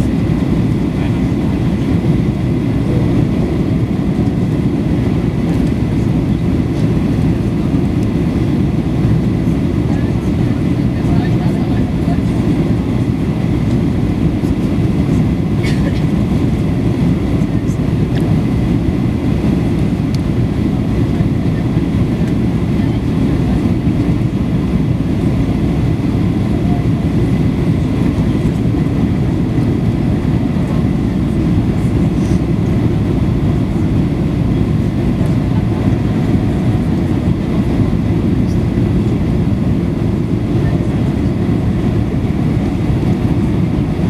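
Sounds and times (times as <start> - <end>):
airplane cabin roar: 0.0 - 44.0.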